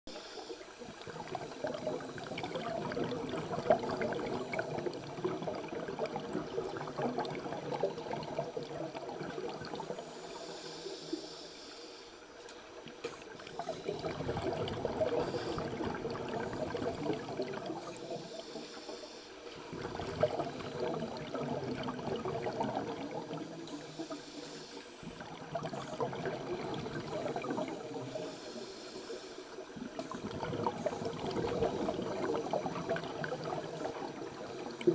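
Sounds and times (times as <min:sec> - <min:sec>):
underwater exhaust bubbles: 0:00.1 - 0:34.9.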